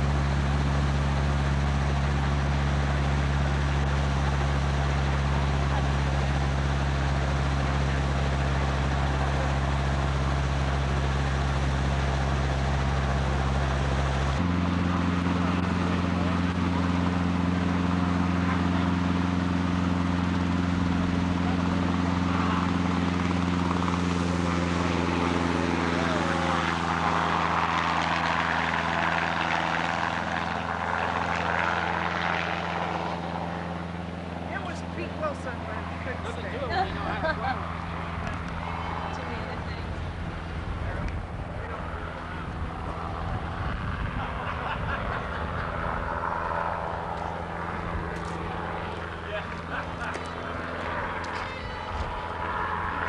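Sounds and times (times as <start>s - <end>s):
engine humming: 0.0s - 53.0s.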